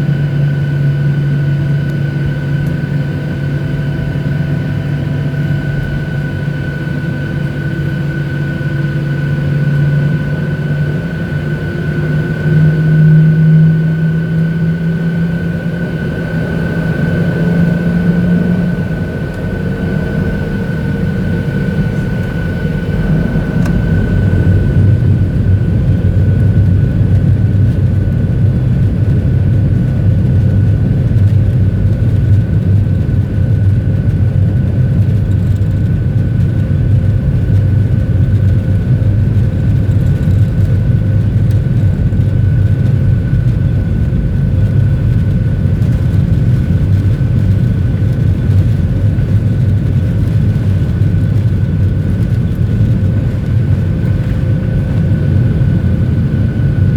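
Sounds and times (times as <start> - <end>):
airliner cabin engine rumble: 0.0 - 56.9
thin steady engine whine: 0.0 - 56.9.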